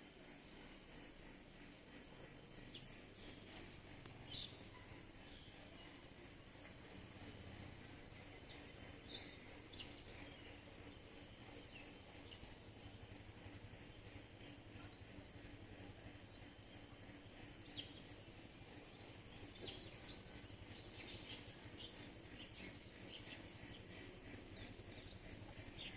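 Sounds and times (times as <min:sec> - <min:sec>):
high-pitched insect drone: 0:00.0 - 0:25.9.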